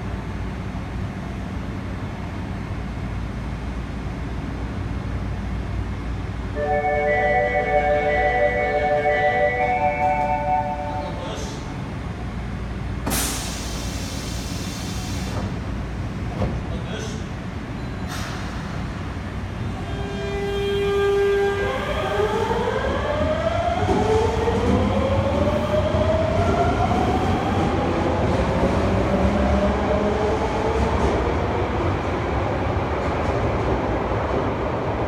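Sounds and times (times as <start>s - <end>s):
subway traction motor whine: 0.0s - 16.7s, 17.3s - 35.0s
wheels rumbling on rail: 0.0s - 35.0s.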